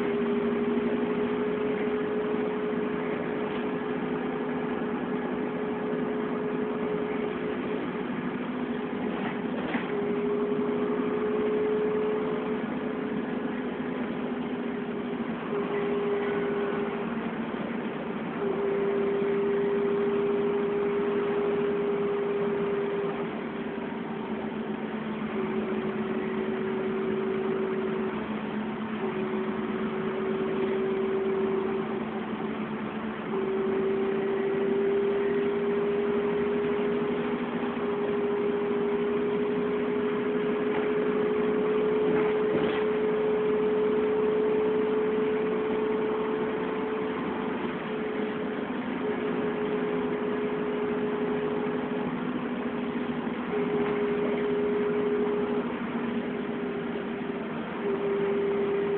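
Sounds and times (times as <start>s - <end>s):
bus engine hum: 0.0s - 58.9s
drivetrain whine: 0.0s - 58.9s.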